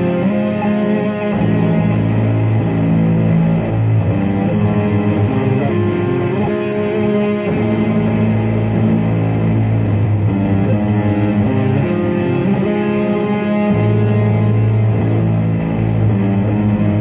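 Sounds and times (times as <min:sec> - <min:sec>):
electric guitar with heavy effects: 0:00.0 - 0:17.0.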